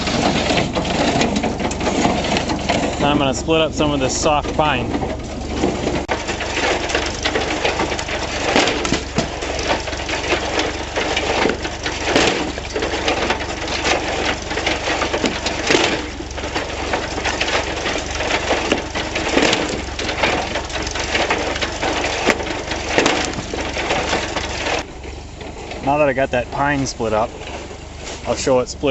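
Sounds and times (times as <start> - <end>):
logs cracking and clattering: 0.0 - 28.9
tractor engine running: 0.0 - 28.9.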